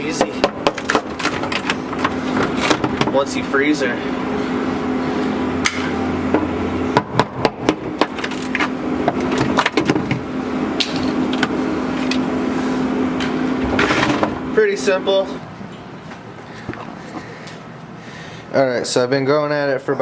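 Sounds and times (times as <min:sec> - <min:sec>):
steady hum: 0:00.0 - 0:19.3.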